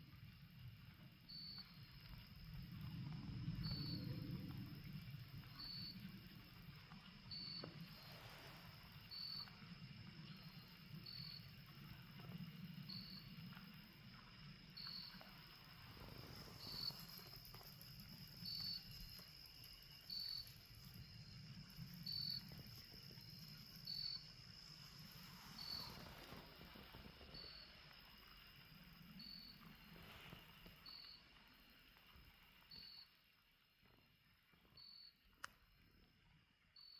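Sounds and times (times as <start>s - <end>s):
faint rain-like hiss: 0.0s - 36.8s
cricket chirping: 0.0s - 36.9s.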